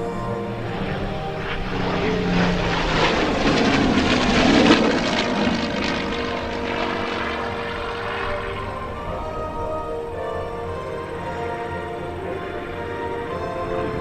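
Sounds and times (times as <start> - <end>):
aircraft engines passing: 0.0 - 14.0
music: 0.0 - 14.0.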